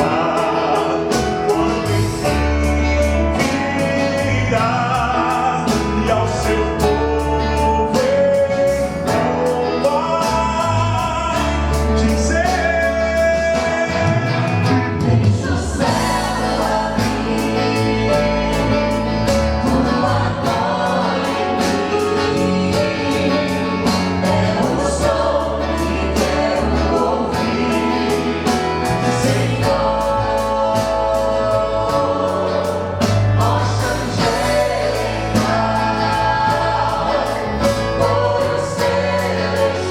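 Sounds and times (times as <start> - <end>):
group singing in harmony: 0.0 - 39.9
instrumental accompaniment with beat: 0.0 - 39.9.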